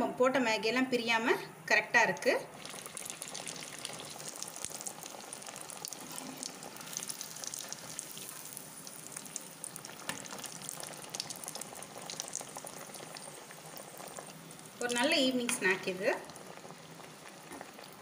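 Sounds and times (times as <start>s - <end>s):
potato cutlets deep-frying in oil: 2.0s - 18.0s.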